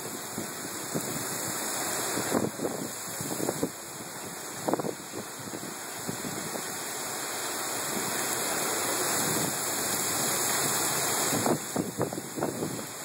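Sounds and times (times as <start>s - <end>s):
heavy rain pouring on pavement: 0.0s - 13.0s.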